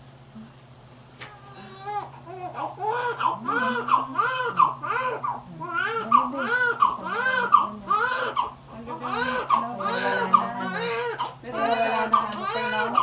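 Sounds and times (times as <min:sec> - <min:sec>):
newborn baby crying: 0:01.2 - 0:13.0.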